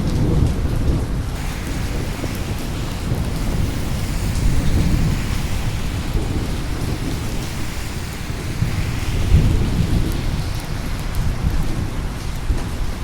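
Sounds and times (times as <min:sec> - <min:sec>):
steady rain: 0:00.0 - 0:13.0
rolling thunder: 0:00.1 - 0:13.0.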